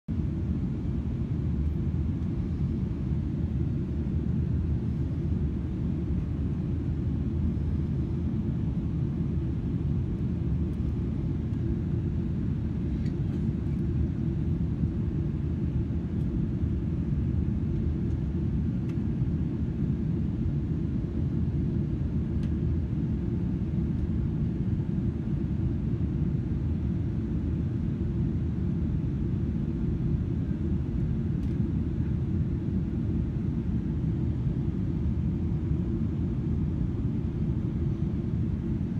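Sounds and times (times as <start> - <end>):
airplane engines rumbling: 0.1 - 38.9.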